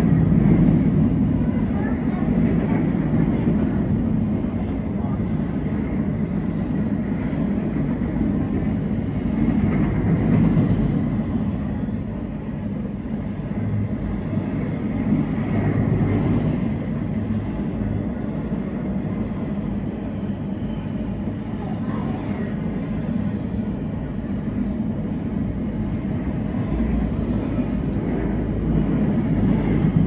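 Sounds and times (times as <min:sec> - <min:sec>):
train rumbling on tracks: 0:00.0 - 0:30.0.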